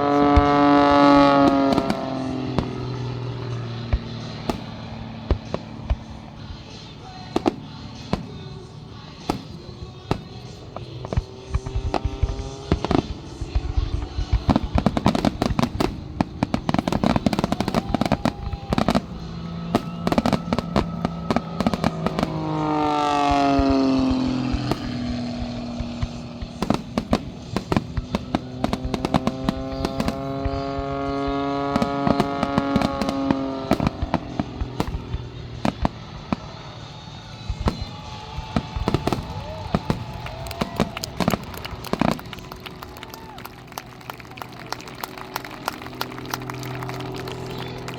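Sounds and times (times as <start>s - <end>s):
firework bangs and crackling: 0.0s - 47.9s.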